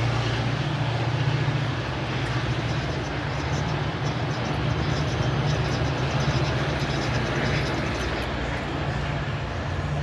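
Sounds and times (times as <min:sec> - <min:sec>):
deep locomotive engine drone: 0:00.0 - 0:10.0
rolling rail noise: 0:00.0 - 0:10.0.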